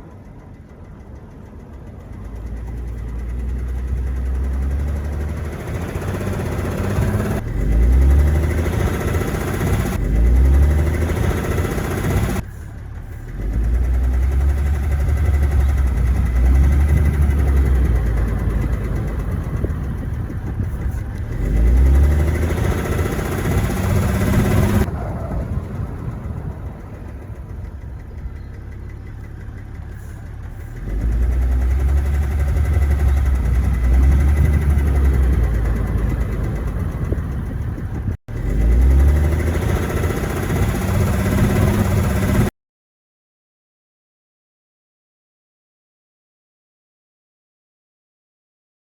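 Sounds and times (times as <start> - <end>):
diesel engine knocking: 0.0 - 42.5.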